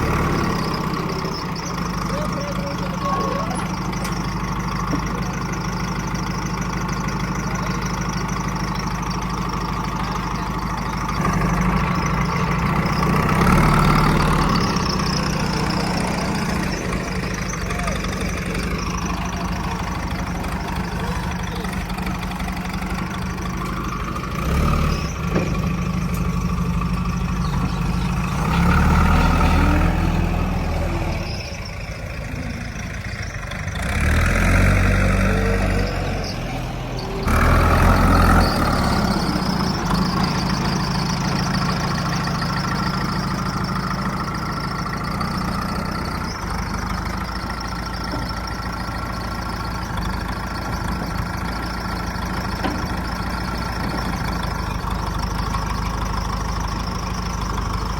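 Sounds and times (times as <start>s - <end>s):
diesel engine idling and revving: 0.0s - 57.9s.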